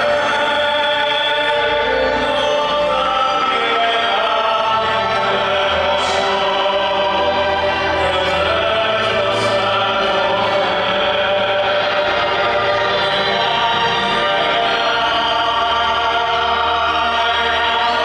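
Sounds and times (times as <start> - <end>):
choral music over loudspeakers: 0.0 - 18.0.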